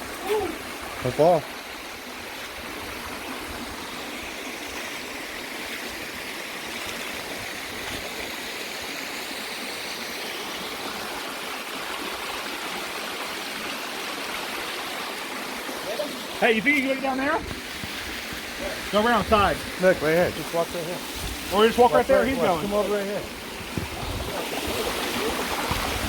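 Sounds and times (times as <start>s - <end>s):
waterfall and creek rushing: 0.0s - 26.0s.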